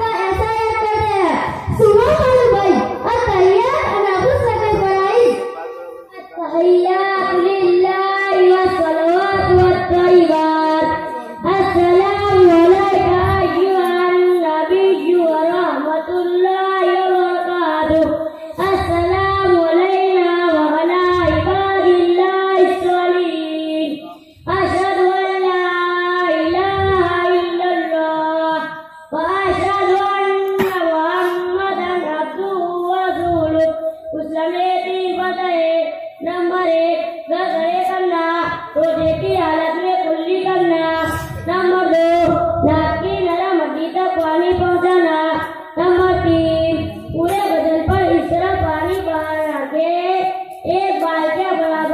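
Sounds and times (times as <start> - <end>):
boy singing: 0.0 - 51.9.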